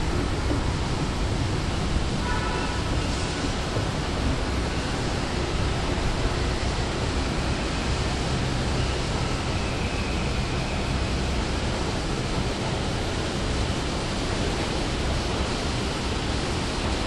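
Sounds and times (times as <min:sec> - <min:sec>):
station atrium ambient noise: 0:00.0 - 0:17.0.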